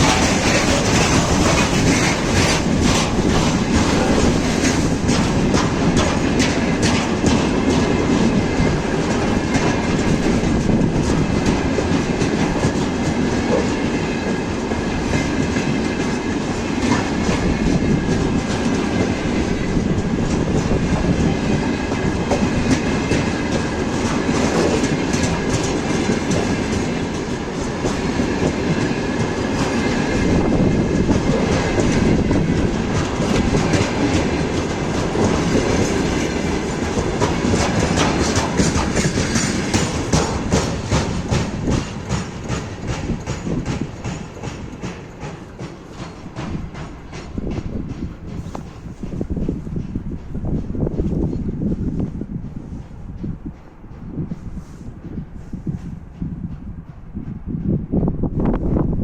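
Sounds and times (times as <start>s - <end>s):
wheels clicking over rail joints: 0.0s - 54.3s
railway wagons rumbling past: 0.0s - 59.0s.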